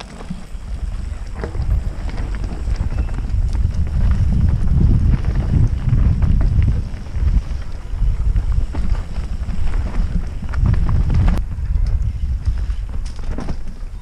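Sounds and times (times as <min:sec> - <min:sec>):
bike rattling: 0:00.0 - 0:14.0
wind buffeting microphone: 0:00.0 - 0:14.0.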